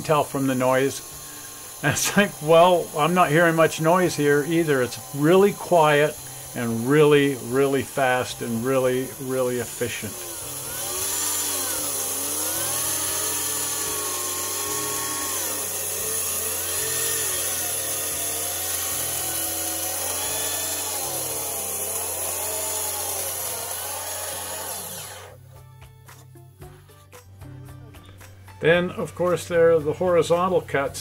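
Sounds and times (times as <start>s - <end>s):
ring saw cutting block: 0.0s - 25.4s.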